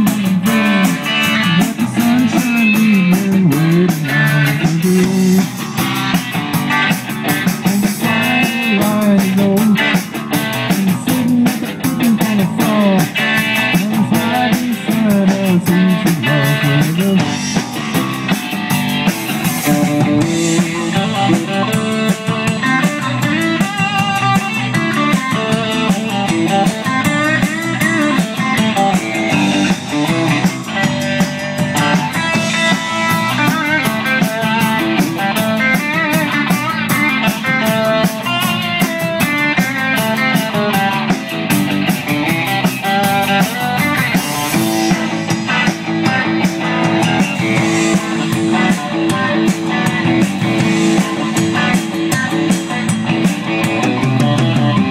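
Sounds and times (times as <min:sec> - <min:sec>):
drum kit with cymbals: 0:00.0 - 0:54.9
electric bass: 0:00.0 - 0:54.9
electric guitar: 0:00.0 - 0:54.9.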